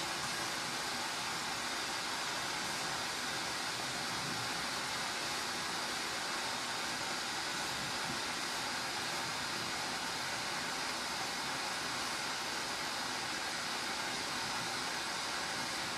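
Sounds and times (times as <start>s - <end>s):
torch flame hissing: 0.0s - 15.9s.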